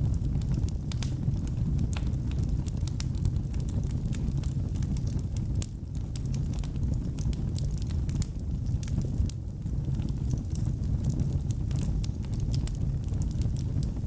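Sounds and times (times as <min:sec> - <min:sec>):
fire roaring in a fireplace: 0:00.0 - 0:14.0
logs crackling and popping: 0:00.0 - 0:14.0.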